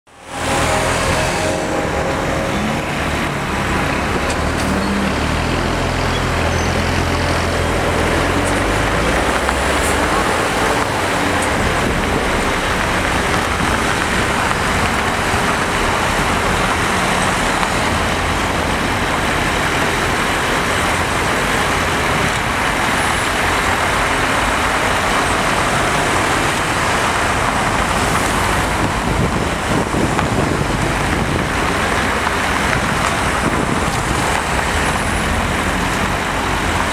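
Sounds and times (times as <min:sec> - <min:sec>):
road traffic noise: 0:00.0 - 0:36.9
truck diesel engine running: 0:00.1 - 0:36.9.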